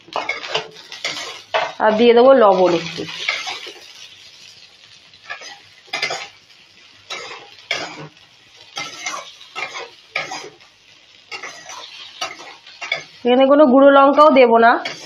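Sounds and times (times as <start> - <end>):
vegetables sizzling: 0.0 - 15.0
metal spatula scraping wok: 0.1 - 13.3, 14.0 - 15.0.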